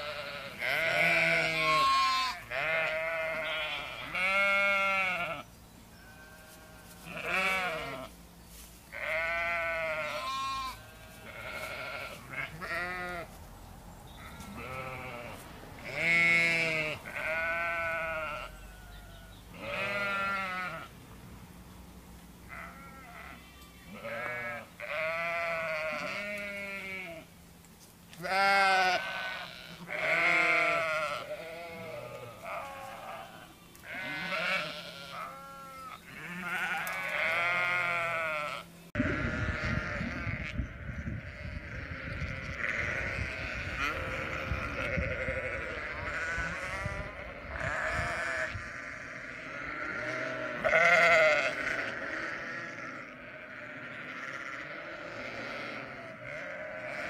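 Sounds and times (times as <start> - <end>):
sheep and lambs bleating: 0.0 - 13.4, 14.1 - 20.9, 22.5 - 27.3, 28.1 - 57.0.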